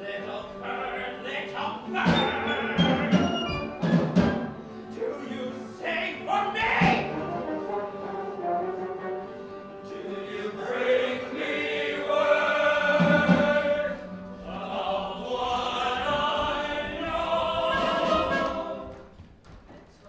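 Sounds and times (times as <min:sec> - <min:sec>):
chorus singing sustained notes: 0:00.0 - 0:19.2.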